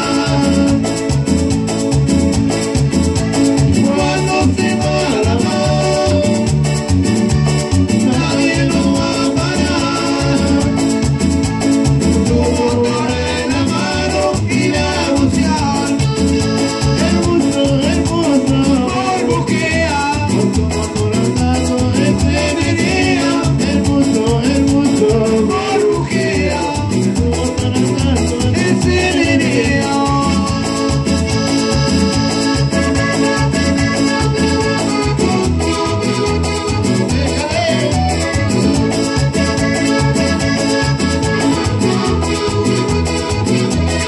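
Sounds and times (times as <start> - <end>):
accordion: 0.0 - 44.0
electric guitar: 0.0 - 44.0
electronic keyboard: 0.0 - 44.0
latin dance band playing live: 0.0 - 44.0.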